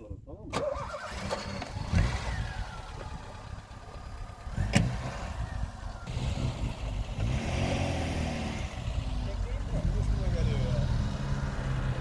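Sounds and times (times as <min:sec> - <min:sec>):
car engine running: 0:01.5 - 0:12.0.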